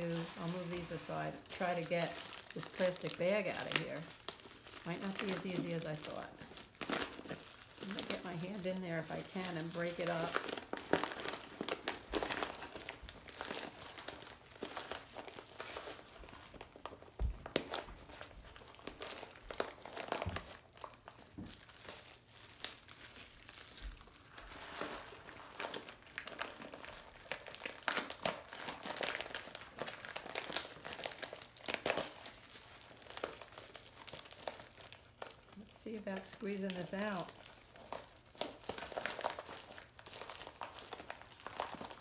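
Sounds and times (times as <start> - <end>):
plastic bag crinkling: 0.0 - 42.0.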